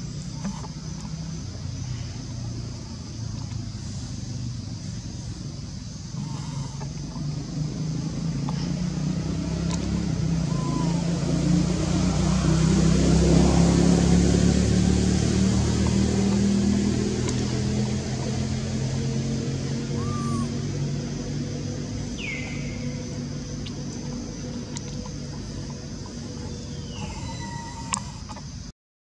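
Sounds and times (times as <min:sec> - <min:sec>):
vehicle engine droning: 0:00.0 - 0:28.7.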